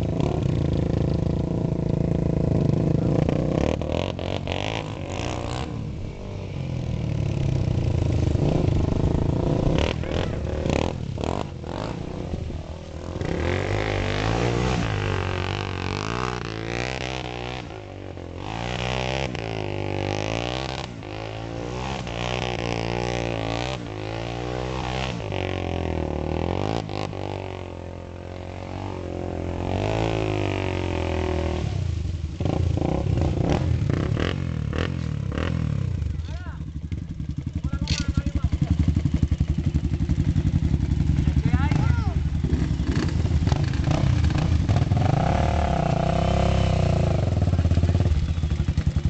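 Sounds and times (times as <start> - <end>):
quad engines revving: 0.0 - 49.0.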